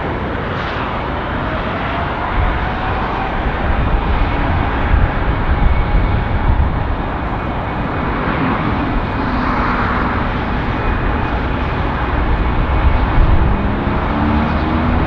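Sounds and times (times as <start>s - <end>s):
jet engines at takeoff thrust: 0.0s - 15.0s.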